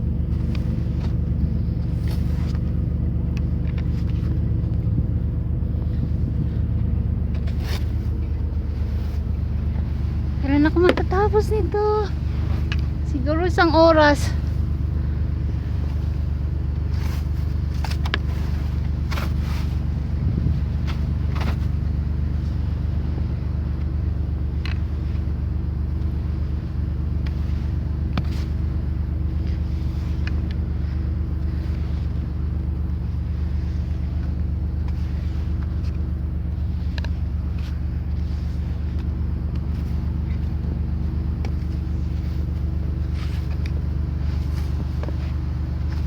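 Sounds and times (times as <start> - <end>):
car engine idling: 0.0 - 46.0
snow scraped off car: 0.3 - 2.7, 7.3 - 22.6, 26.5 - 46.0.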